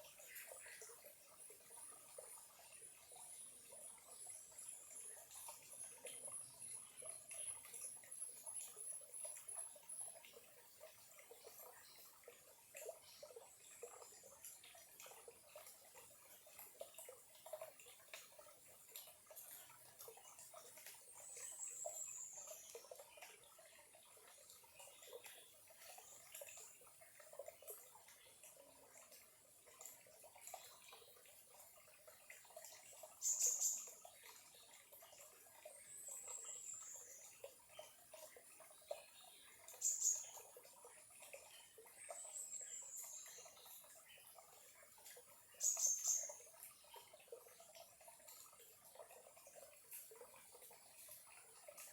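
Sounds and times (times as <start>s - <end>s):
small stream trickling: 0.0s - 51.9s.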